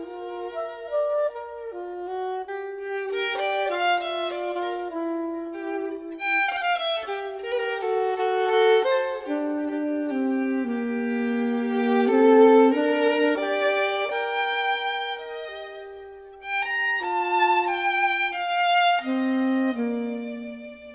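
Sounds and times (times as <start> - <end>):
violin background music: 0.0 - 20.9.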